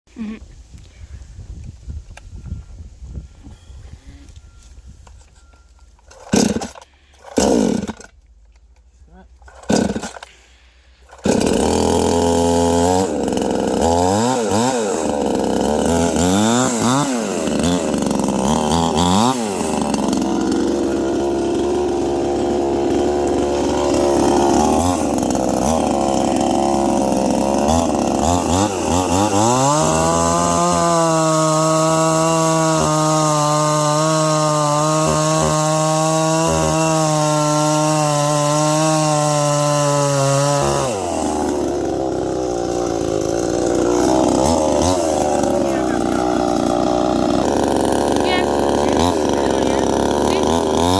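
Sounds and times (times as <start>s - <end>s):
chainsaw revving: 6.0s - 8.2s, 9.4s - 50.9s.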